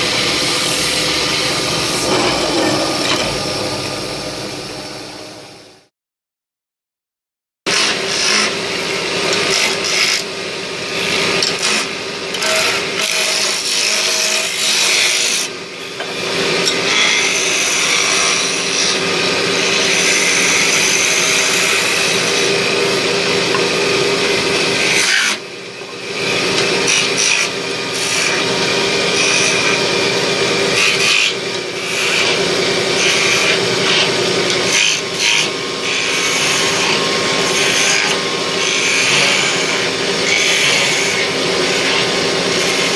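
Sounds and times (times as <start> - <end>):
wood lathe humming: 0.0 - 5.6, 7.8 - 42.9.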